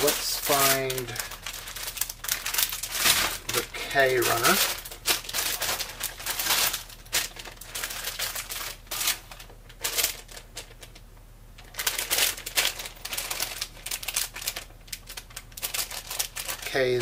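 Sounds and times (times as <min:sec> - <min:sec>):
plastic bags crinkling: 0:00.0 - 0:17.0.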